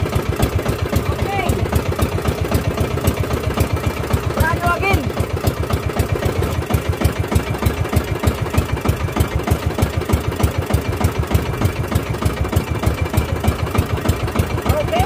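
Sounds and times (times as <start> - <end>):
small boat engine pulsing: 0.0 - 15.0.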